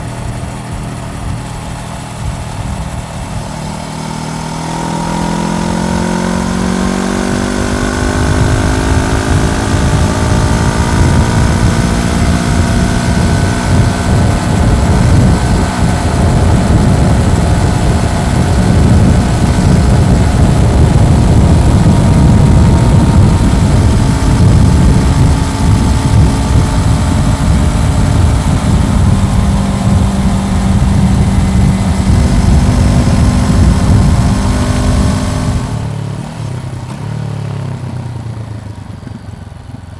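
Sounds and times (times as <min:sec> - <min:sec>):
wind buffeting on microphone: 0:00.0 - 0:35.9
motorcycle engine on the move: 0:00.0 - 0:39.9.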